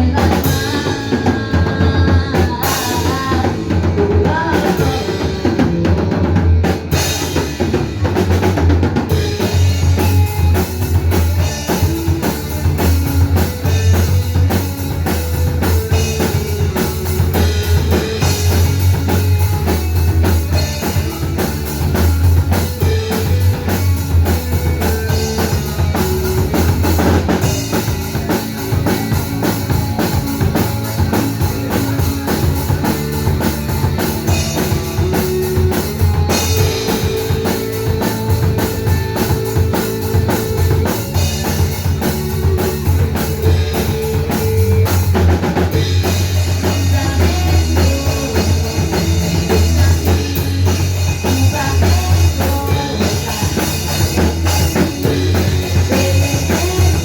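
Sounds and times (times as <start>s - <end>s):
live band playing: 0.0s - 57.0s
low bass: 0.0s - 57.0s.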